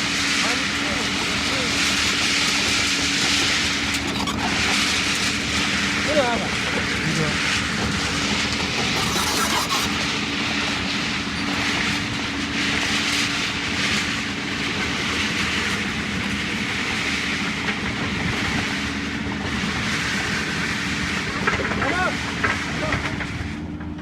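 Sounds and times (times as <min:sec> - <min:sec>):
construction machine engine running: 0:00.0 - 0:24.0
rattle of working noise: 0:00.0 - 0:24.0.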